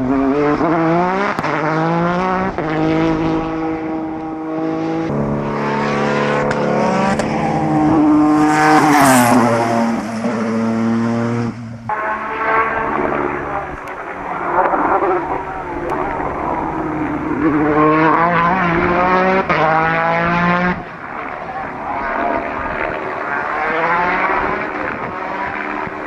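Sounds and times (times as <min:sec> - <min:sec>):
race car engine at full throttle: 0:00.0 - 0:26.0.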